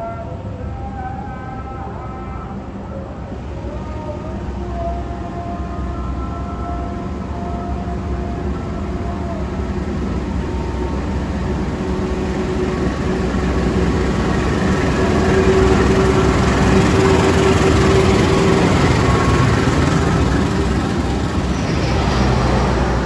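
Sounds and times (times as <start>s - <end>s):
steady hum: 0.0s - 23.0s
train rumble: 0.0s - 23.0s.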